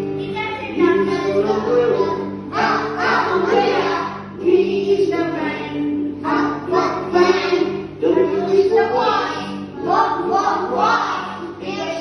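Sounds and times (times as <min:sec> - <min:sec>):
musical backing: 0:00.0 - 0:12.0
voices singing together: 0:00.8 - 0:12.0.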